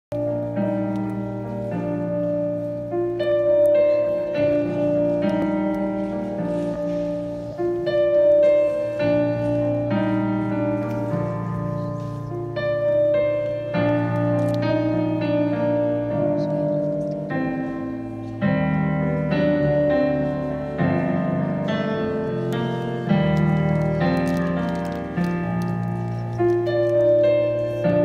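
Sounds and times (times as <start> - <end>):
slow piano music over speakers: 0.1 - 28.0.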